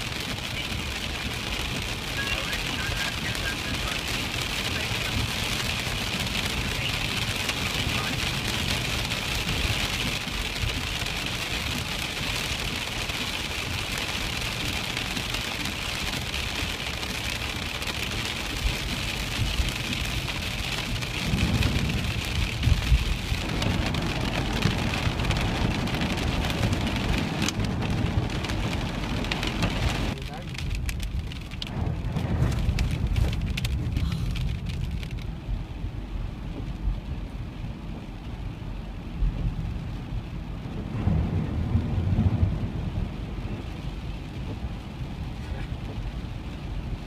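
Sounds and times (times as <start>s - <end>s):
rain beating on a car: 0.0s - 47.0s
tyres on wet slushy road: 0.0s - 47.0s.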